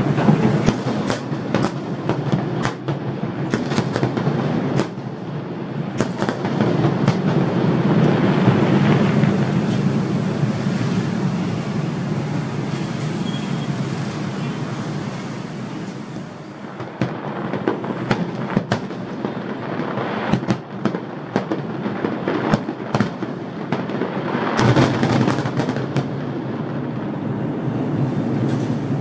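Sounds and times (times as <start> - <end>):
sharp firework cracks: 0.0 - 13.0, 15.8 - 27.2
distant firework bursts rumbling: 0.0 - 29.0
firework crackles: 0.0 - 29.0.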